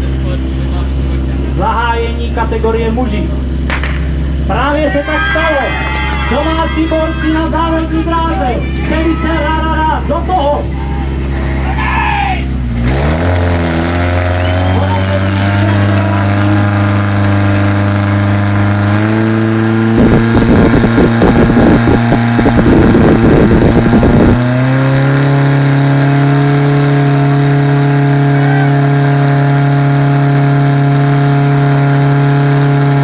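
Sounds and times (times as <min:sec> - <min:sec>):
fire pump engine running: 0:00.0 - 0:33.0.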